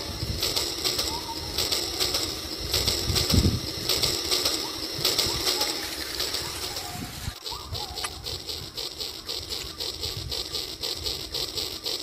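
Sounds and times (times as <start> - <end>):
birds chirping: 0.0 - 12.0
toy train running on track: 0.0 - 12.0.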